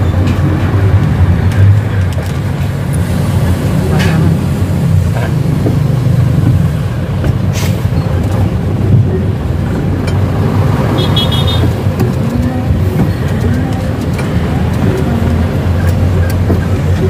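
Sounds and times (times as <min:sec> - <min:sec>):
diesel truck engine rumble: 0:00.0 - 0:17.0.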